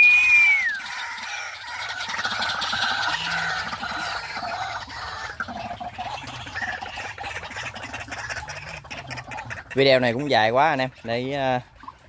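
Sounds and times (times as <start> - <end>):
caged birds calling: 0.0 - 12.0.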